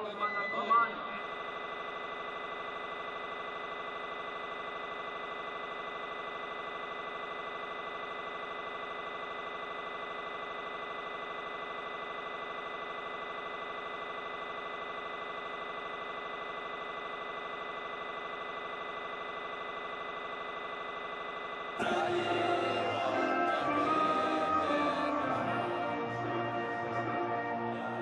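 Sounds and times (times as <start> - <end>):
steady electronic buzz: 0.0 - 28.0.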